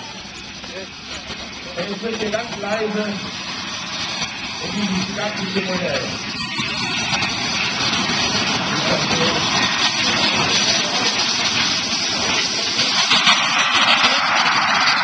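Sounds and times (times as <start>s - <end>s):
model jet engines rushing: 0.0s - 15.0s.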